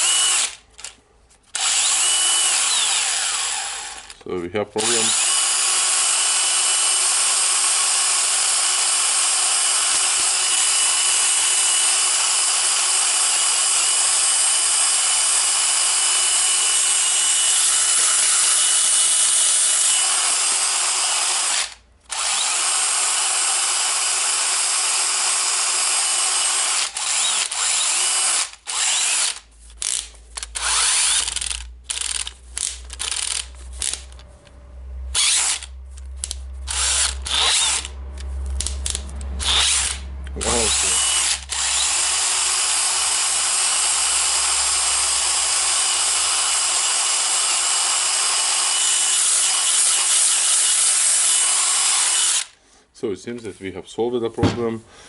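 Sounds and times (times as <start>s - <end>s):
drill motor whining: 0.0s - 4.2s, 4.8s - 34.2s, 35.1s - 52.6s.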